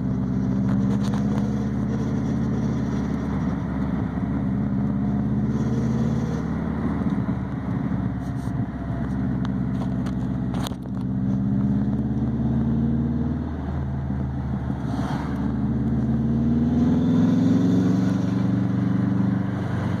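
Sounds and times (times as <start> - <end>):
car engine while driving: 0.0 - 20.0.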